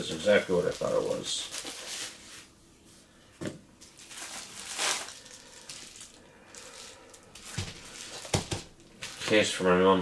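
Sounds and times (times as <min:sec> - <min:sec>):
packaging rustling and crinkling: 0:00.0 - 0:02.5, 0:03.8 - 0:09.6.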